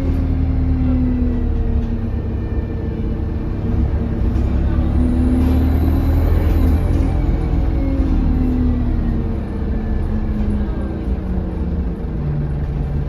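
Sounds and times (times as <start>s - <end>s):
bus engine running under load: 0.0s - 13.0s.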